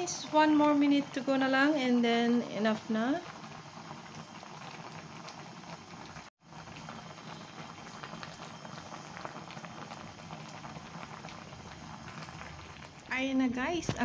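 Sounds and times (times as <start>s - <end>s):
soup bubbling at a boil: 0.0s - 14.0s.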